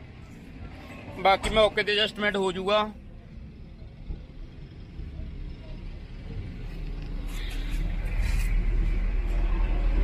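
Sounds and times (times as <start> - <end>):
low vehicle engine rumble: 0.0 - 10.0.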